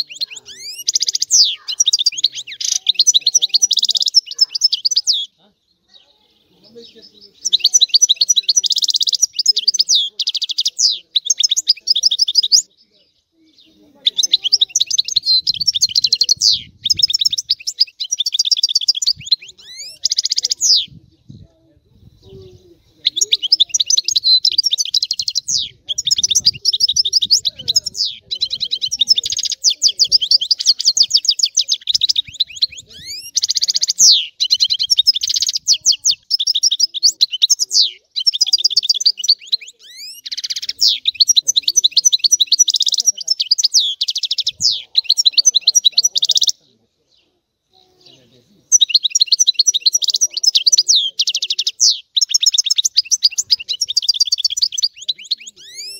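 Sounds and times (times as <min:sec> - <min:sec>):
goldfinch twittering song: 0:00.0 - 0:21.0, 0:22.1 - 0:46.6, 0:47.9 - 0:55.9.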